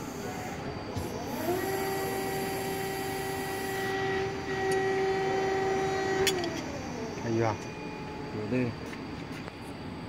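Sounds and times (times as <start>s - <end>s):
hydraulic press whine: 0.0s - 9.8s.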